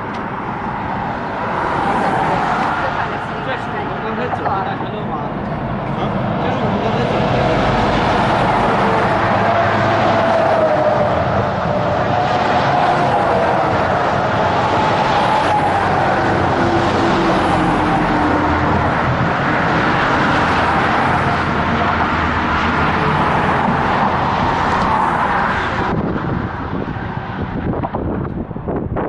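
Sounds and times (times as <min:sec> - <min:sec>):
fast highway traffic passing: 0:00.0 - 0:29.0.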